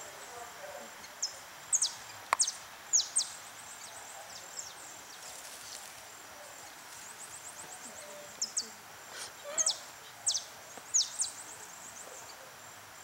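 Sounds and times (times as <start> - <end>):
birds chirping: 0.0 - 13.0
faint steady hiss: 0.0 - 13.0.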